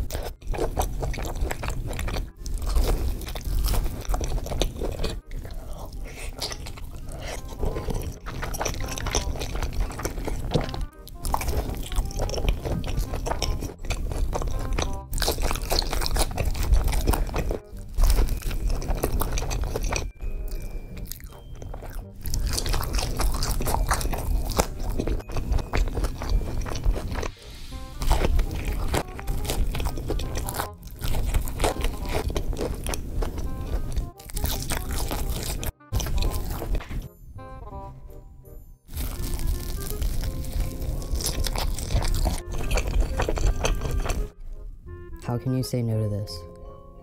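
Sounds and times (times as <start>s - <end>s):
crunching and chewing food: 0.0s - 37.1s, 38.8s - 44.8s
background music: 0.0s - 47.0s.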